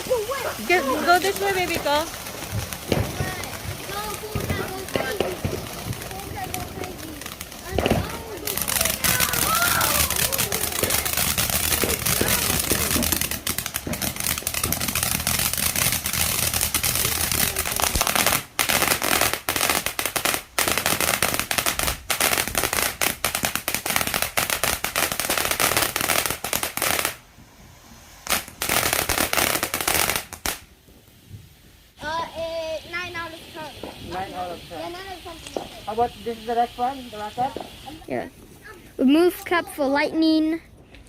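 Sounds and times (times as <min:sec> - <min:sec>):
firework crackling pops: 0:00.0 - 0:41.0.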